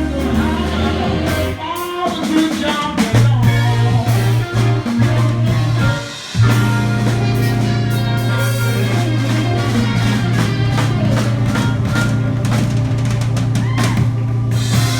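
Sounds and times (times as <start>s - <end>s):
low bass line: 0.0s - 1.6s, 3.2s - 14.9s
drum kit: 0.0s - 14.9s
live blues band playing: 0.0s - 14.9s.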